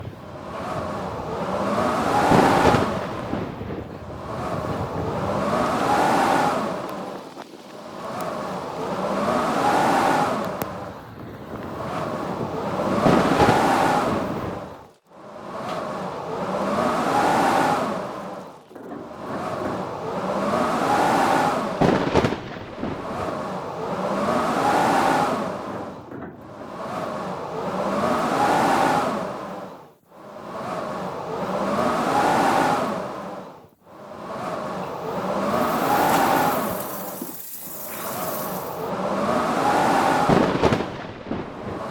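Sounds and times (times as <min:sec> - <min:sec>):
howling blizzard wind: 0:00.0 - 0:41.9.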